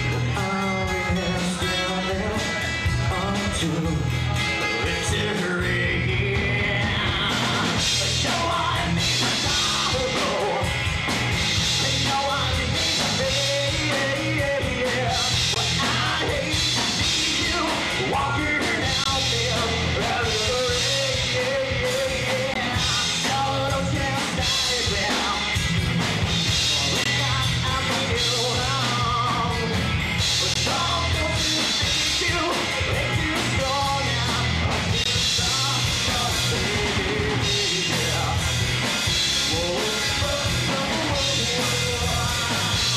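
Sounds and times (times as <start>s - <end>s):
person singing: 0.0s - 10.8s, 11.6s - 25.7s, 26.5s - 42.9s
bass guitar: 0.0s - 42.9s
drums: 0.0s - 42.9s
electric guitars: 0.0s - 42.9s.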